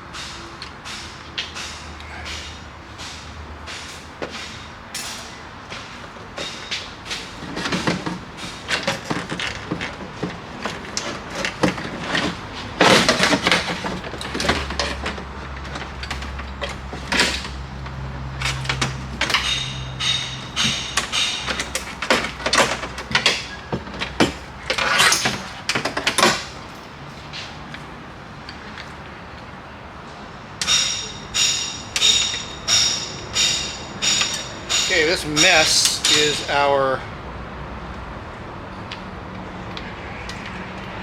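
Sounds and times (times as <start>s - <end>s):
parts clicking and rattling in door: 0.2s - 29.1s, 30.6s - 37.0s.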